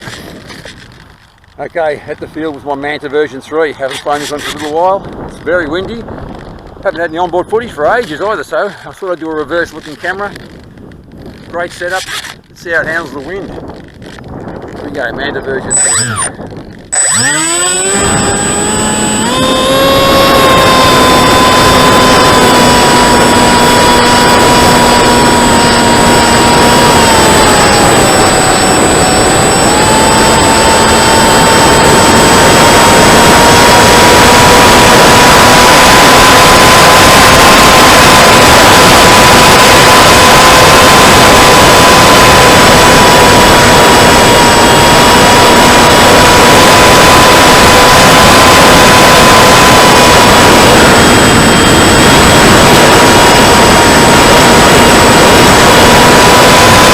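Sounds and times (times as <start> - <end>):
motor and propeller whine: 0.0 - 56.9
wind rush: 0.0 - 56.9.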